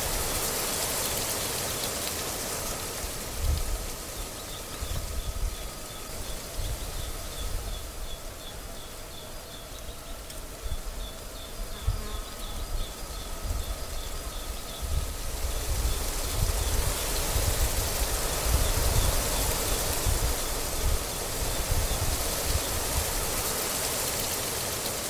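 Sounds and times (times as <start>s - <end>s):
wind gusting on microphone: 2.9s - 9.0s, 10.5s - 24.5s.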